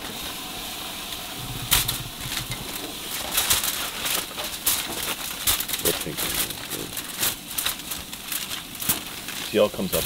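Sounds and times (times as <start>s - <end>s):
aluminium foil crinkling: 1.6s - 10.0s.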